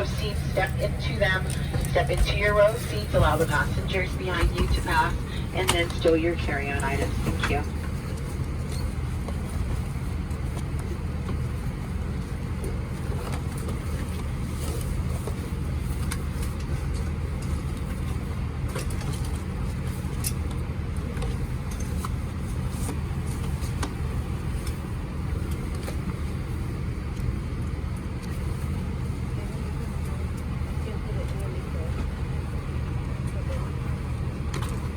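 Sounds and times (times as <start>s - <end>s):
cabin ventilation droning: 0.0s - 34.9s.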